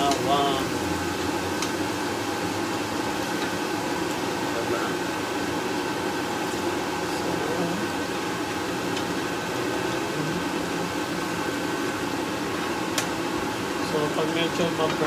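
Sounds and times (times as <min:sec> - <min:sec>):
background whir: 0:00.0 - 0:15.0
garlic sizzling in hot oil: 0:00.0 - 0:15.0.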